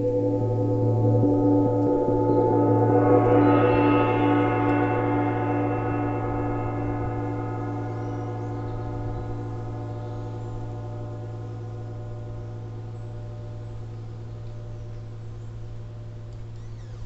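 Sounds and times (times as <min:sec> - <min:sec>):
gong ringing: 0:00.0 - 0:14.8.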